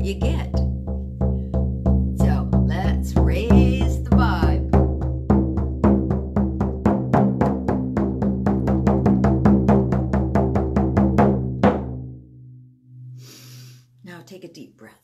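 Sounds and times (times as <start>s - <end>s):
frame drum beating: 0.0s - 12.3s.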